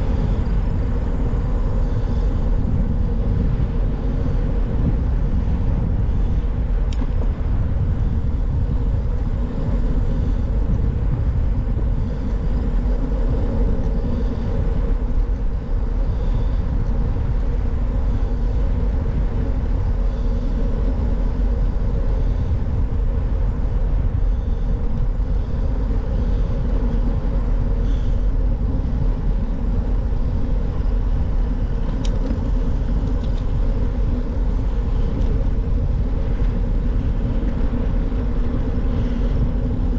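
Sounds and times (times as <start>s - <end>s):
bicycle tyre and road noise: 0.0s - 39.9s
wind rumble on microphone: 0.0s - 39.9s.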